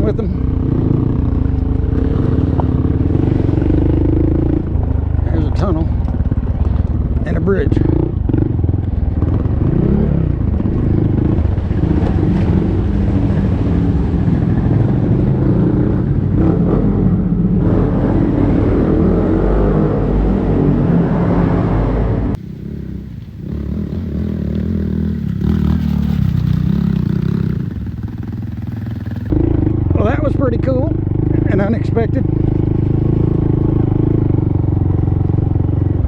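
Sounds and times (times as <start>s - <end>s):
motorcycle engine running: 0.0s - 18.6s, 22.3s - 36.0s.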